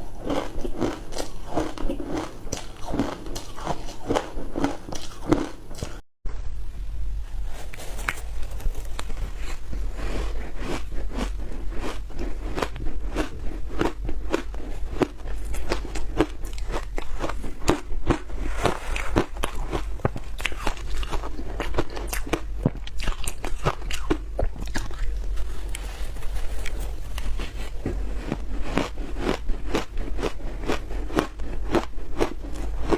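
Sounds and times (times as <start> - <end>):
crunchy chewing: 0.0 - 6.0, 7.7 - 32.9.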